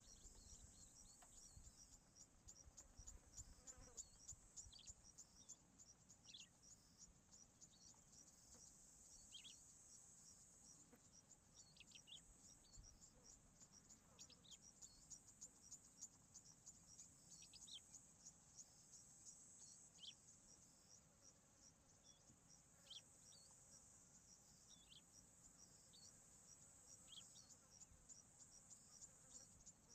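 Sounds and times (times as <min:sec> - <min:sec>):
insect chirping: 0:00.0 - 0:29.9.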